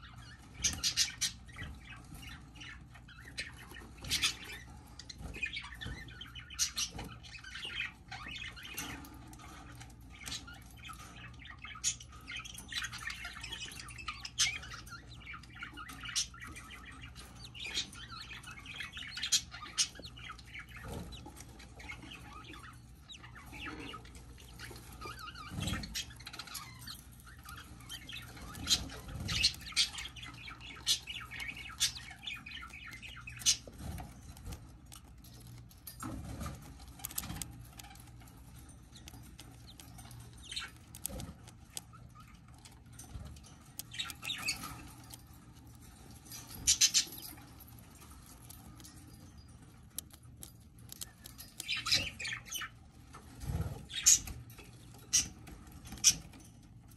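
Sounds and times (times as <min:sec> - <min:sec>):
budgerigars chirping and squawking: 0:00.0 - 0:56.9.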